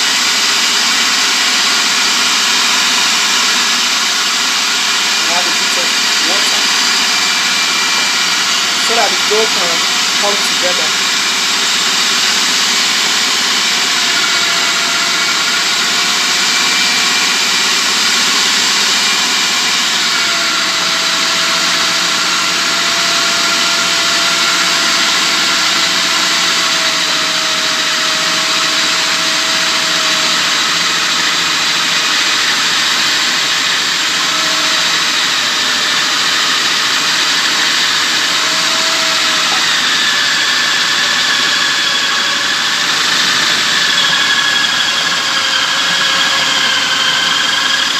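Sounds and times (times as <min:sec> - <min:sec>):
food processor motor running: 0:00.0 - 0:47.9.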